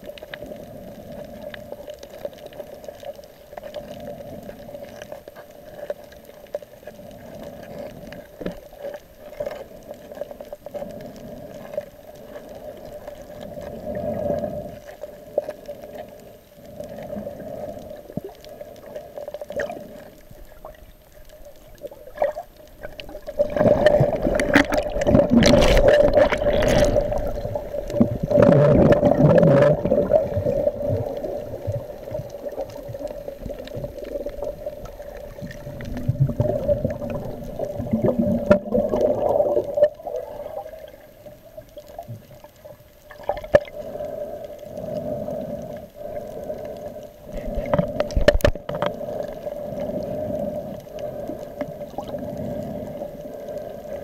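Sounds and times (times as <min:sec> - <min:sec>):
faint steady hum: 0:00.0 - 0:54.0
underwater gurgling and bubbling: 0:00.0 - 0:54.0.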